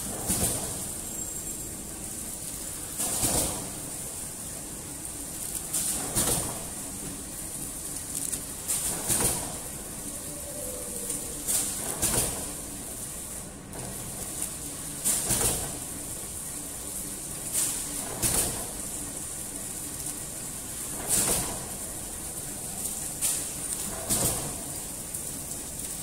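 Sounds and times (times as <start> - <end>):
machine sealer noise bursts: 0.0 - 26.0
packing machine humming: 0.0 - 26.0.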